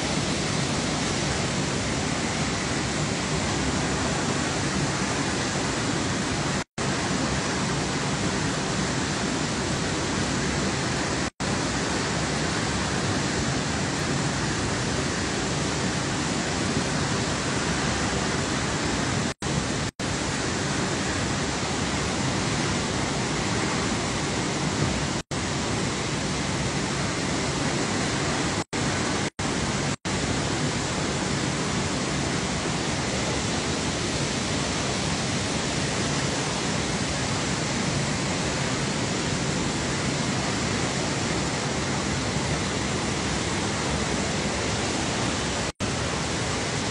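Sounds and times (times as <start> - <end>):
water rushing over spillway: 0.0 - 46.9.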